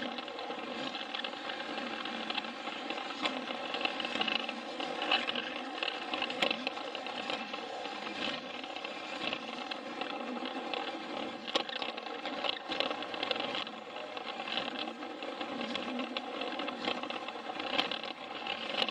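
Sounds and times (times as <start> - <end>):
toy train motor whirring: 0.0 - 18.9
wheels clicking on track: 0.0 - 18.9.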